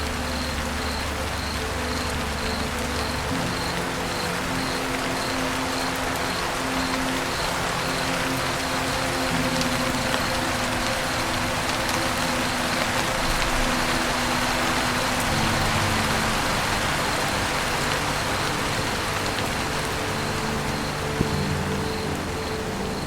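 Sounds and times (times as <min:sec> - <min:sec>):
rain on a roof: 0:00.0 - 0:23.0
soft background music: 0:00.0 - 0:23.0.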